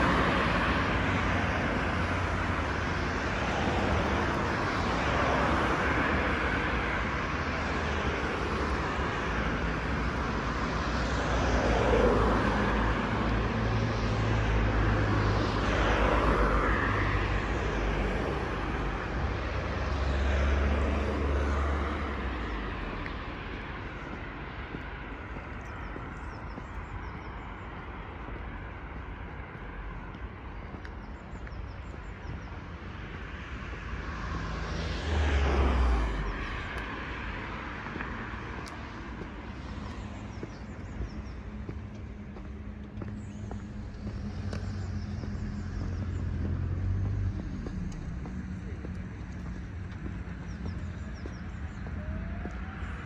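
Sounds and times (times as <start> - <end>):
cars passing: 0.0 - 53.0
low traffic rumble: 0.0 - 53.0.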